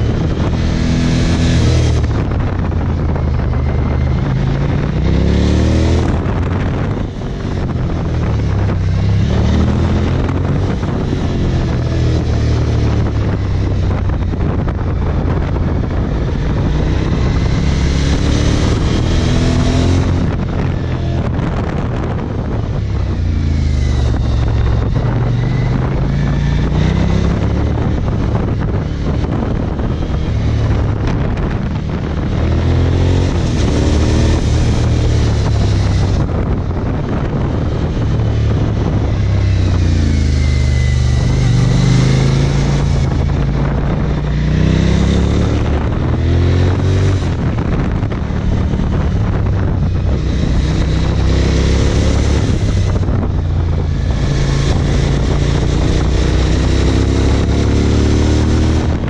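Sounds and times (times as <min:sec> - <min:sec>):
motorcycle engine revving: 0:00.0 - 0:59.0
wind on microphone: 0:00.0 - 0:59.0.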